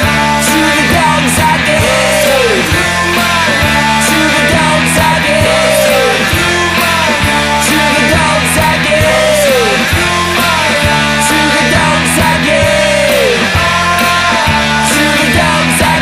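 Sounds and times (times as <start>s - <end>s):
distorted guitars: 0.0s - 16.0s
drums and cymbals: 0.0s - 16.0s
punk rock band playing: 0.0s - 16.0s.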